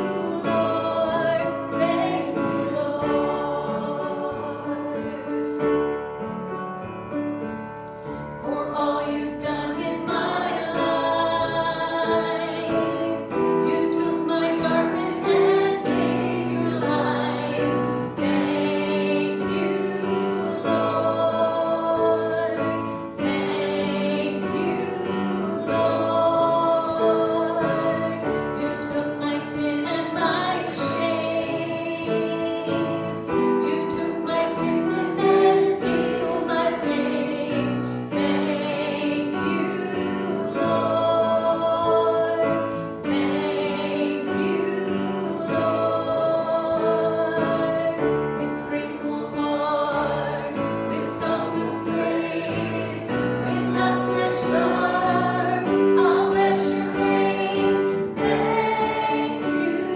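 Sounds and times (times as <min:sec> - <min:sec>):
voices singing a hymn: 0:00.0 - 0:59.9.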